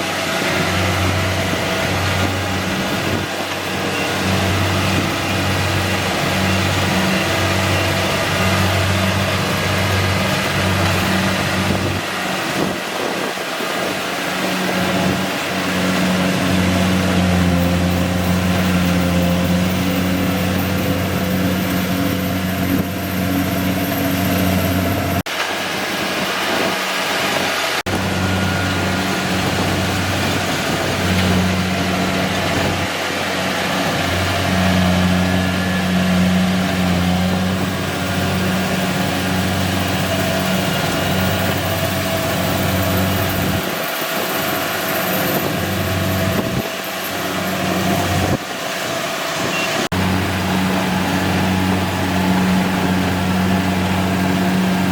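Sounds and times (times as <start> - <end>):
combine harvester engine running: 0.0 - 54.9.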